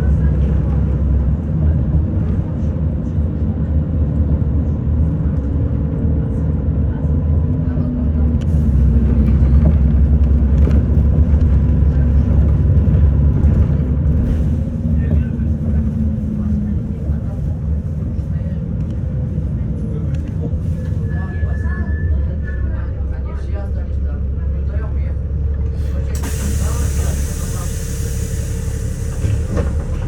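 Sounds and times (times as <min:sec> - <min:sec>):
bus engine and road drone: 0:00.0 - 0:30.0.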